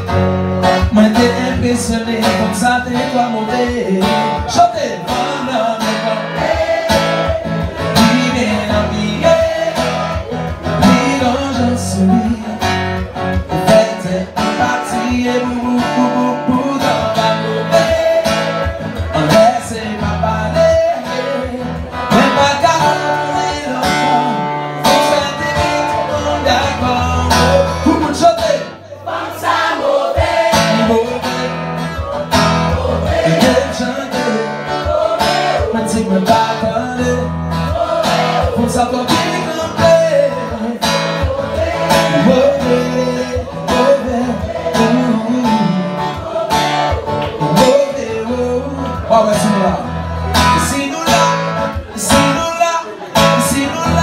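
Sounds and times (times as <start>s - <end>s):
man singing: 0.0s - 29.1s, 30.2s - 54.0s
strummed acoustic guitar: 0.0s - 54.0s.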